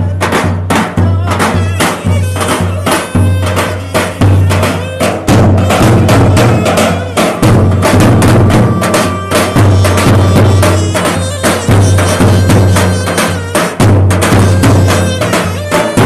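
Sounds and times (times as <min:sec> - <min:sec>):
bass drums beating a driving rhythm: 0:00.0 - 0:16.0
reed pipe playing a wavering melody: 0:01.8 - 0:16.0.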